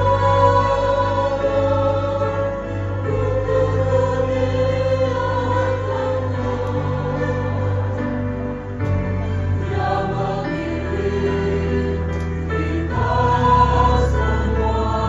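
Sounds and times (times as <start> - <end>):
choir singing a hymn: 0.0 - 15.0
low bass accompaniment: 0.0 - 15.0.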